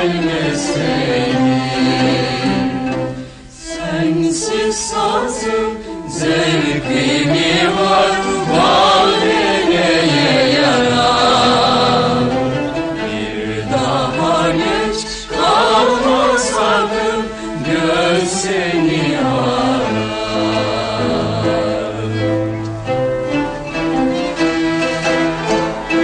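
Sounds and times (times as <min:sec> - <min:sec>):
bowed string ensemble: 0:00.0 - 0:26.0
choir singing: 0:00.0 - 0:26.0.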